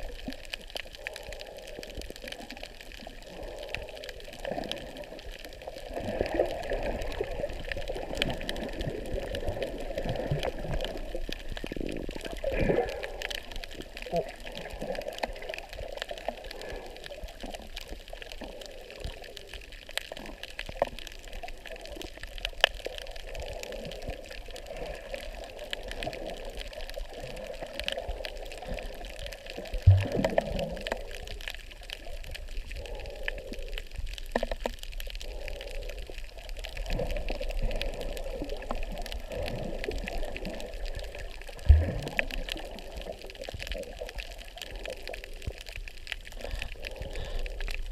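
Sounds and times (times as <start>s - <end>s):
water sloshing and bubbling: 0.0s - 47.9s.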